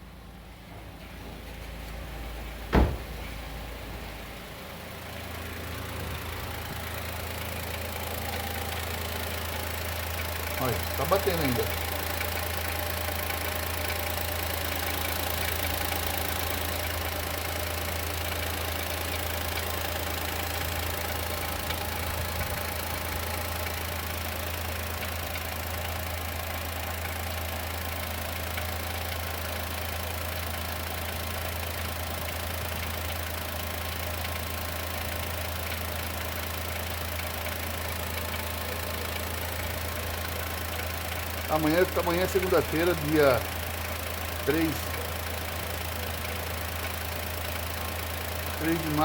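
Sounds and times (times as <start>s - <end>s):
car engine idling: 0.0s - 49.0s
engine knocking: 5.1s - 49.0s.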